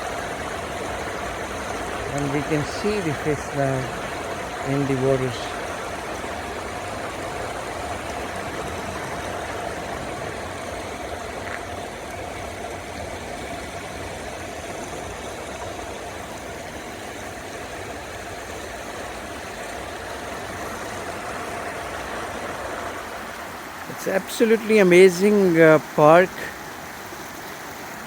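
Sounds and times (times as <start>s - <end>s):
river water rushing over rocks: 0.0s - 28.0s.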